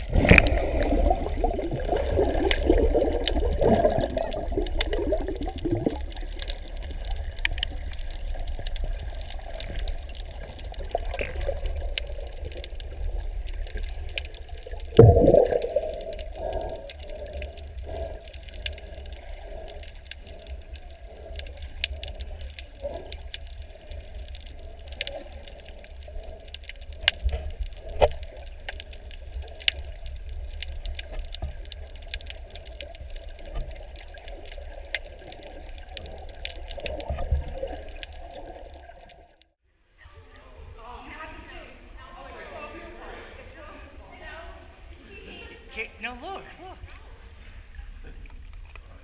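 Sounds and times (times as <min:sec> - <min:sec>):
muffled underwater rushing: 0:00.0 - 0:39.4
small clicks and crackles: 0:00.0 - 0:39.6, 0:47.6 - 0:49.0.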